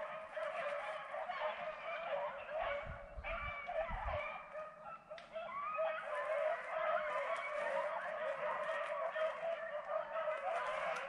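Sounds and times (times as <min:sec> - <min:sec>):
hounds baying in chorus: 0:00.0 - 0:11.0.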